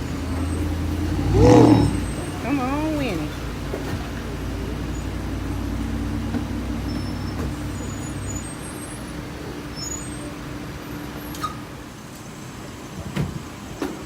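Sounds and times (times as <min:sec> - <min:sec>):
vehicle engine rumbling: 0:00.0 - 0:11.3.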